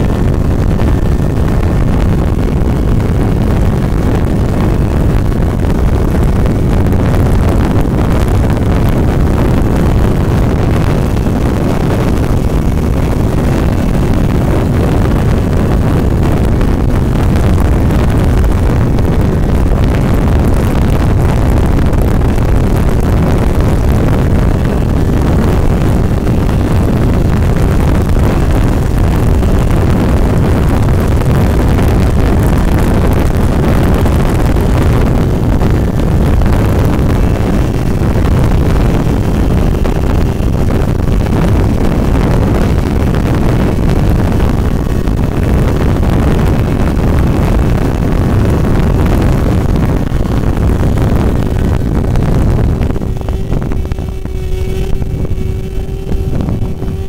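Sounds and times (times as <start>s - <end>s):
vehicle road noise: 0.0s - 57.0s
wind buffeting microphone: 0.0s - 57.0s.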